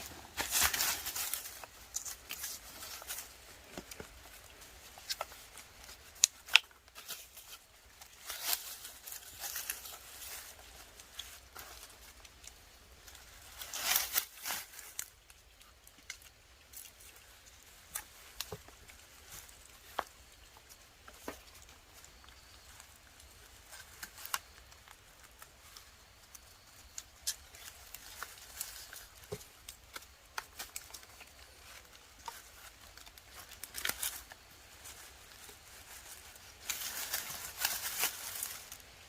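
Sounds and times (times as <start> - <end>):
rustling and crinkling: 0.0 - 39.0.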